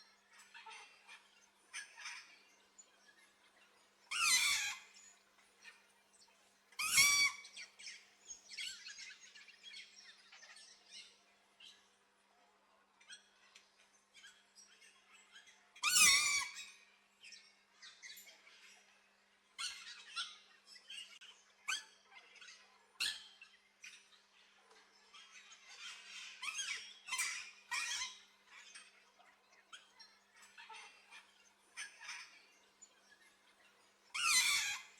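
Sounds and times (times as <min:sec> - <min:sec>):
birds chirping and squeaking: 0:00.2 - 0:05.9, 0:06.8 - 0:11.7, 0:14.2 - 0:19.0, 0:19.6 - 0:34.9.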